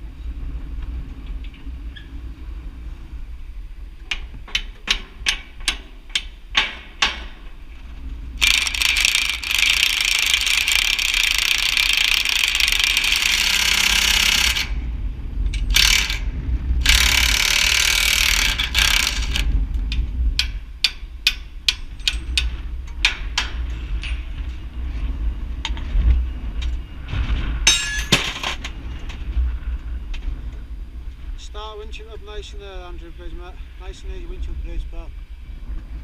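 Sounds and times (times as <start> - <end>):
low engine rumble: 0.0 - 36.0.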